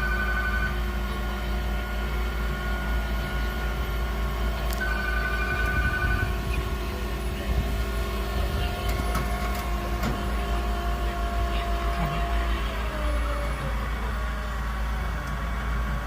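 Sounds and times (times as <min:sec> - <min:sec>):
faint engine whine: 0:00.0 - 0:16.0
vehicle engine rumbling: 0:00.0 - 0:16.0.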